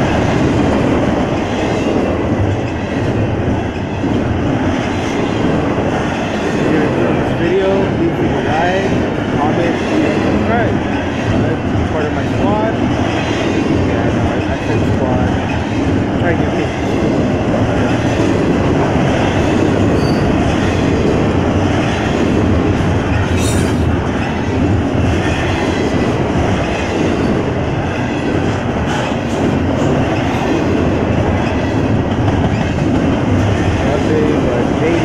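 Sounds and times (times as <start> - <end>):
freight train wheels rumbling on rail: 0.0 - 35.0.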